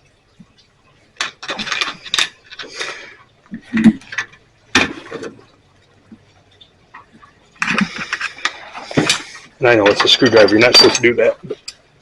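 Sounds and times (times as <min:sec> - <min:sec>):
metal clinking and scraping: 0:01.2 - 0:05.6, 0:06.2 - 0:11.9.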